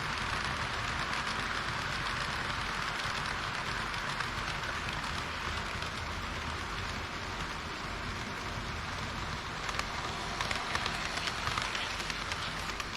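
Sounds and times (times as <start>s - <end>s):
model train wheels and motor: 0.0s - 12.9s.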